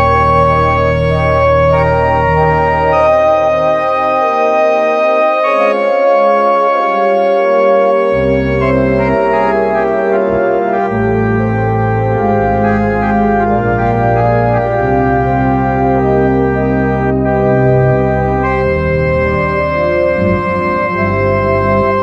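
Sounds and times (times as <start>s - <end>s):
deep organ bass notes: 0.0s - 22.0s
organ chords: 0.0s - 22.0s.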